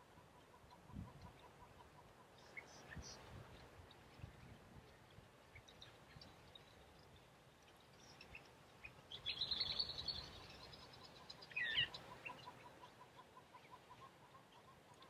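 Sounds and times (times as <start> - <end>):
soft low bird pips: 0.0 - 15.0.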